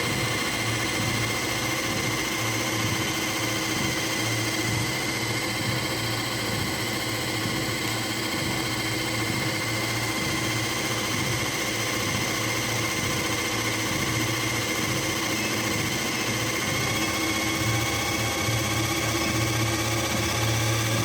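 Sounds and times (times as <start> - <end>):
treadmill whirring: 0.0 - 21.0.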